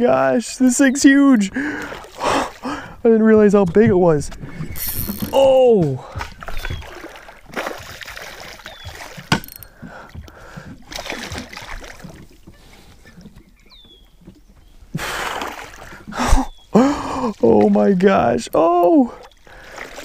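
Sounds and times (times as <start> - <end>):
water splashing: 1.0 - 13.6, 14.2 - 20.0
bumps and knocks in a boat: 1.5 - 20.0.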